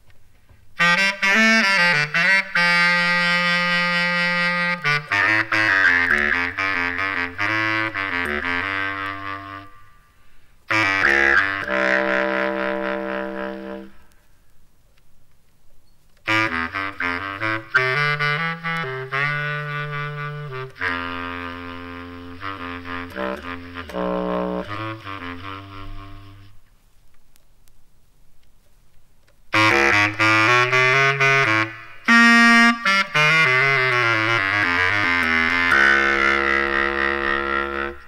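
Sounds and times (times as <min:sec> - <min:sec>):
saxophone phrases: 0:00.8 - 0:14.2, 0:16.2 - 0:26.6, 0:29.5 - 0:38.0.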